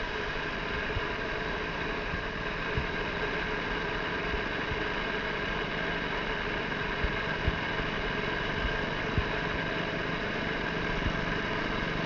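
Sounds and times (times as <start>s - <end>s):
lawn mower engine idling: 0.0s - 12.0s.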